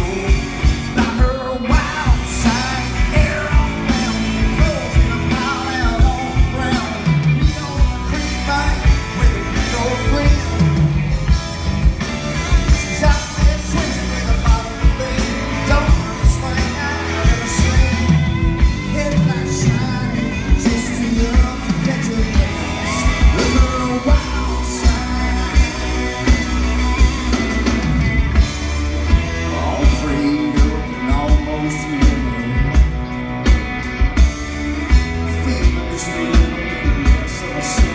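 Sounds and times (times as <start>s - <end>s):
man singing lead vocal: 0.0s - 11.4s, 12.3s - 27.4s, 29.0s - 37.9s
country rock band playing: 0.0s - 37.9s.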